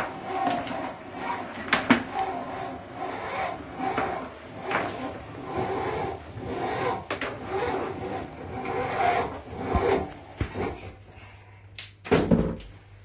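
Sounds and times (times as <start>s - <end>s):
drain hose scraping: 0.0s - 11.0s.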